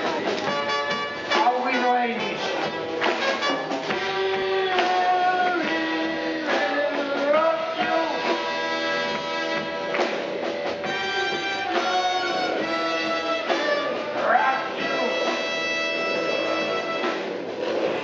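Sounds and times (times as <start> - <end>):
circus orchestra music: 0.0 - 18.0.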